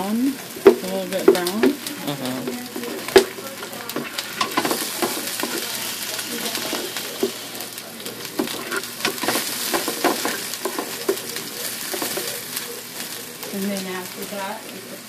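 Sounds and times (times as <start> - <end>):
spatula scraping pan: 0.0 - 14.5
garlic and onion sizzling in oil: 0.0 - 15.0.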